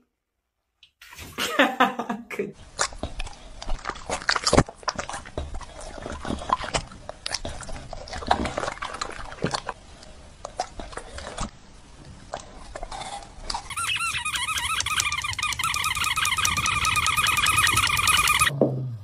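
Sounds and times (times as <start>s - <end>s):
dog chewing wetly: 2.6s - 18.5s.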